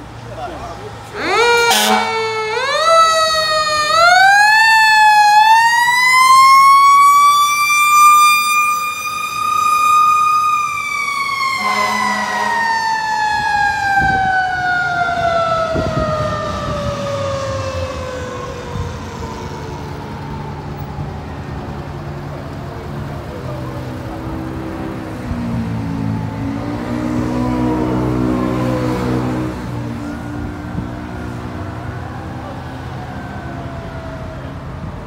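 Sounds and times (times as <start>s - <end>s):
fire truck siren wailing: 0.7s - 35.0s.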